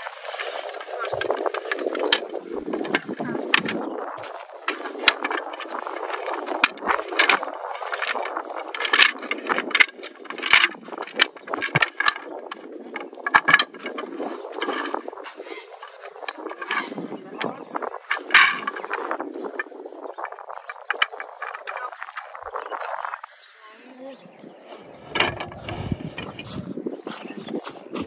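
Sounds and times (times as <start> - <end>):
clicks knocks and scrapes: 0.0 - 22.6, 24.7 - 28.0
steady rustling: 0.0 - 23.4, 24.6 - 28.0.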